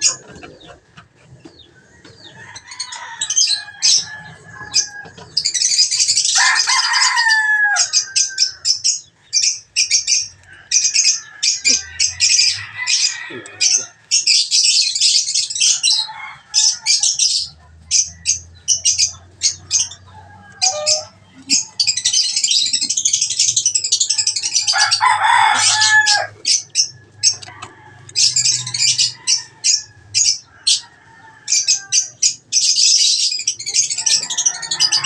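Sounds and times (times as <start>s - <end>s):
lovebirds chattering: 0.0s - 35.0s.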